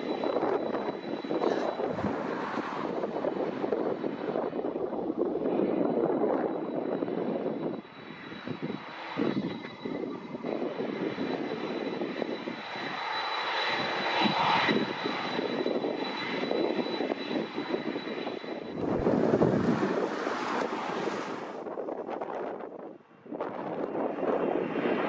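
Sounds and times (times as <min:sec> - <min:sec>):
jet engines whining: 0:00.0 - 0:25.0.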